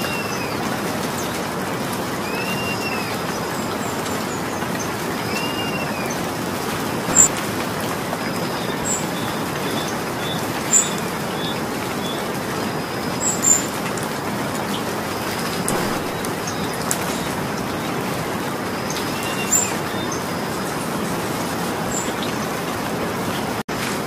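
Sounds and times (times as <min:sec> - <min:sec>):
birds chirping: 0:00.0 - 0:07.4, 0:08.1 - 0:23.6
steady rain falling: 0:00.0 - 0:24.0.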